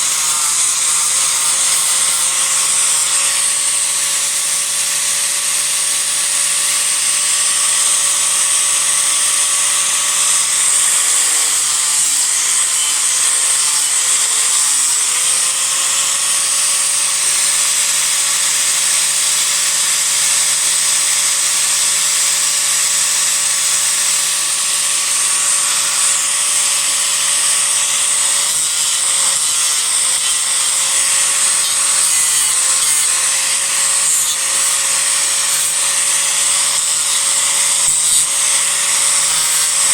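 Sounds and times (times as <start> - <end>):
angle grinder carving wood: 0.0 - 39.9.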